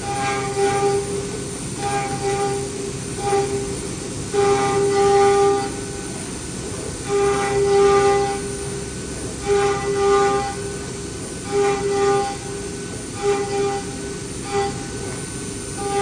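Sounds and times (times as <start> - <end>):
high-pitched cutter whine: 0.0 - 16.0
milling machine noise: 0.0 - 16.0.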